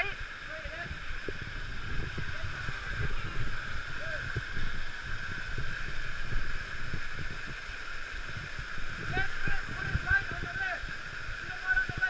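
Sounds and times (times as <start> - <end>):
waterfall rushing water: 0.0 - 12.0
wind buffeting on microphone: 0.0 - 12.0.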